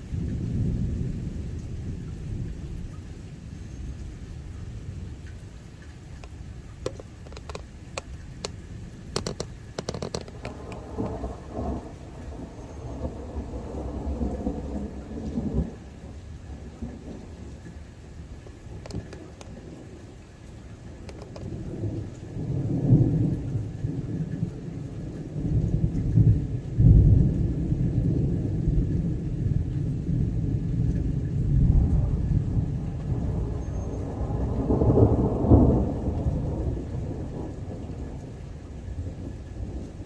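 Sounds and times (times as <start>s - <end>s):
thunder rumbling: 0.0s - 40.0s.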